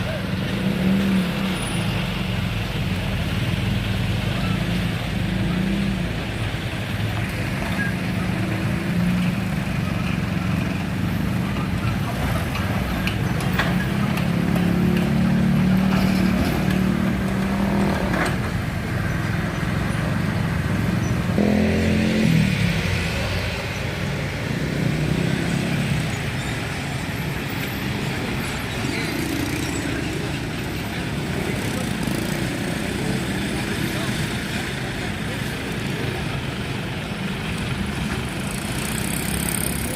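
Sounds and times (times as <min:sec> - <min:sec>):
motorcycles: 0:00.0 - 0:39.9
road traffic passing: 0:00.0 - 0:39.9.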